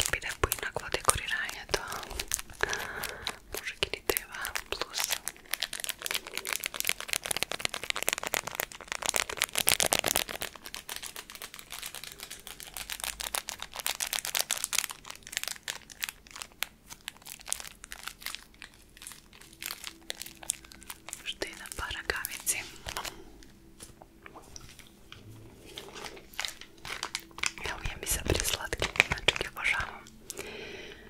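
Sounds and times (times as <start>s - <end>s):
packaging crinkling: 0.0s - 31.0s.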